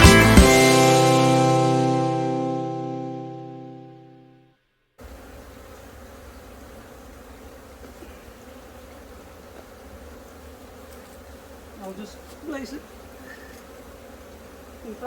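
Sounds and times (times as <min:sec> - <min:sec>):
honeybees buzzing: 0:00.0 - 0:03.6, 0:05.0 - 0:15.0.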